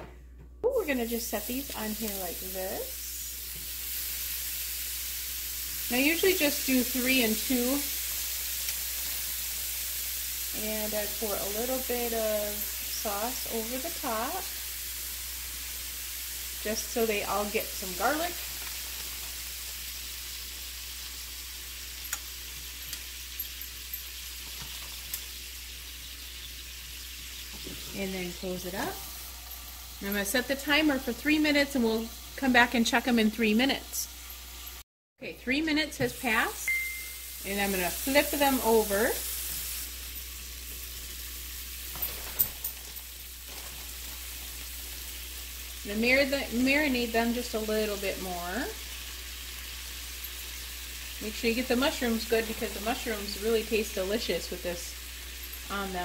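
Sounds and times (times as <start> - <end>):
food sizzling on a grill: 0.8 - 34.8, 35.5 - 56.0.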